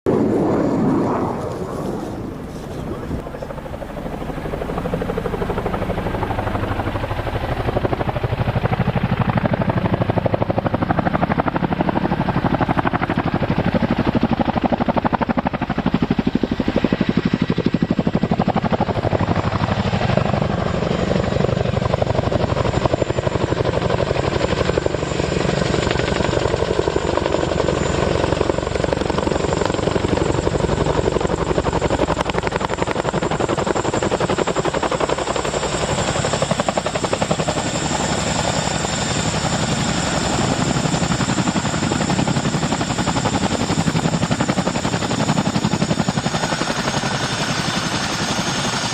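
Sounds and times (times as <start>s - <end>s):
helicopter rotor beating: 0.1s - 48.9s.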